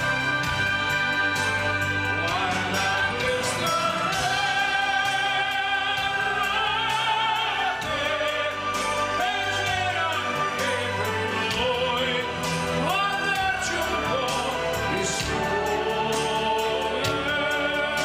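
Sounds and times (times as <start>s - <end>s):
operatic singing: 0.0s - 18.0s
orchestra playing: 0.0s - 18.0s.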